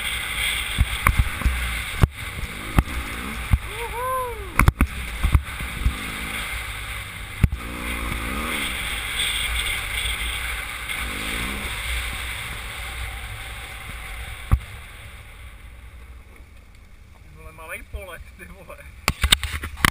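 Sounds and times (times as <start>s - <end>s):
motorcycle engine: 0.0s - 16.7s.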